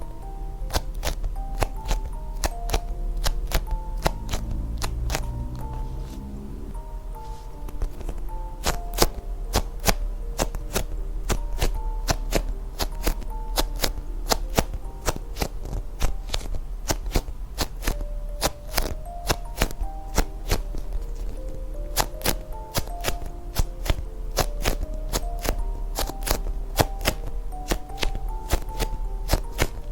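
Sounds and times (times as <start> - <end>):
light background music: 0.0 - 29.9.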